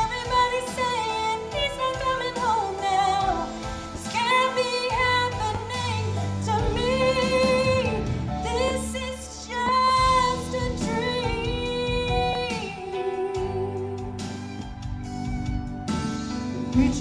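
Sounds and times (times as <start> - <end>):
woman singing ballad: 0.0 - 14.9, 16.3 - 17.0
instrumental accompaniment: 0.0 - 17.0.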